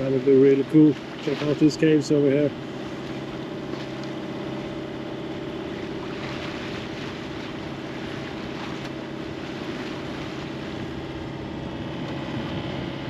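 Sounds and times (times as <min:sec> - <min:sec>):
boat engine running: 0:00.0 - 0:13.0
wind and water hiss: 0:00.0 - 0:13.0.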